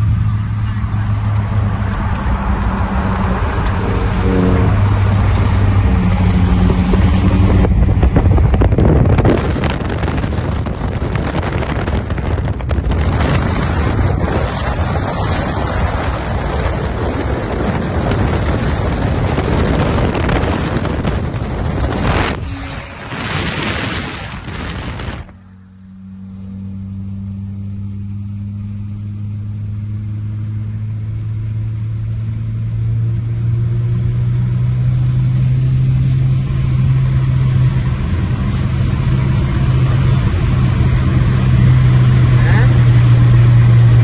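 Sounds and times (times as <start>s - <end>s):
low exhaust drone: 0.0s - 44.0s
wind and road noise: 0.0s - 44.0s.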